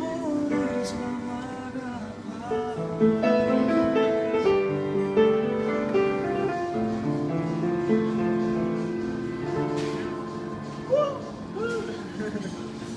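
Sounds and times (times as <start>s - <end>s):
solo piano chords: 0.0s - 12.9s.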